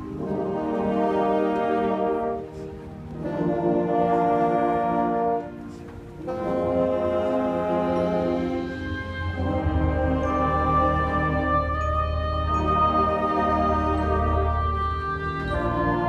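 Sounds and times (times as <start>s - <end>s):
brass band playing sustained chords: 0.0s - 16.0s.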